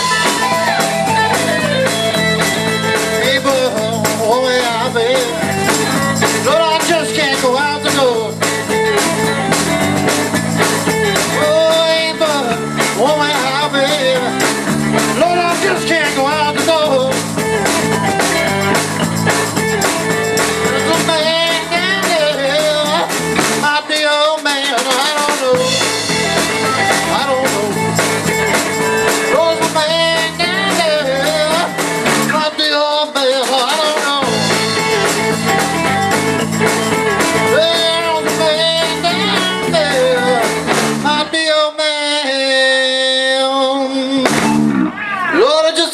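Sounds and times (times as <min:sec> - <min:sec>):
drum kit: 0:00.0 - 0:41.7, 0:42.4 - 0:45.9
electric guitar bending notes: 0:00.0 - 0:41.7, 0:43.2 - 0:45.4
bass guitar: 0:00.0 - 0:45.9
keyboards: 0:00.0 - 0:45.9.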